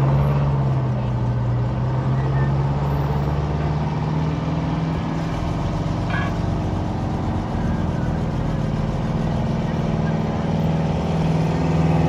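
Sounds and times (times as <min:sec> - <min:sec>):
fire truck engines idling: 0:00.0 - 0:11.9.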